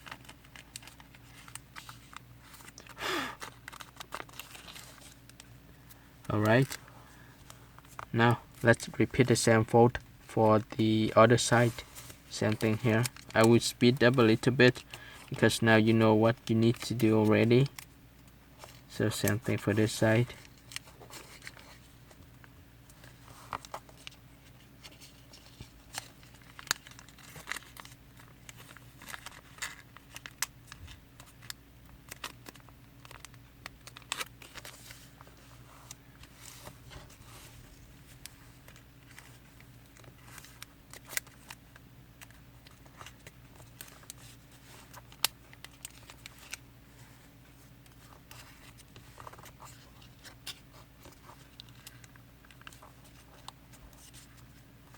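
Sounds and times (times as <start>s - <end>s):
paper crinkling and rustling: 0.0s - 17.9s, 18.6s - 22.3s, 22.9s - 54.9s.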